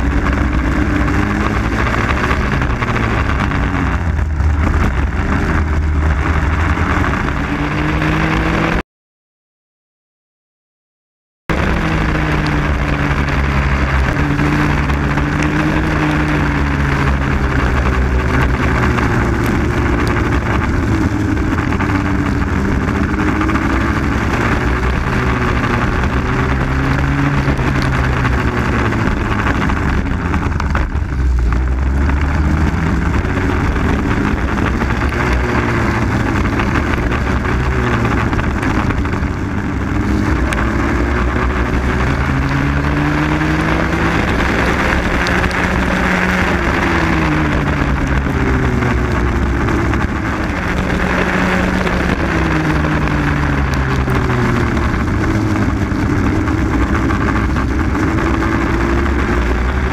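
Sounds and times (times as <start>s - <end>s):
kart engine revving: 0.0s - 8.8s, 11.5s - 59.9s
wind noise rushing: 0.0s - 8.8s, 11.5s - 59.9s.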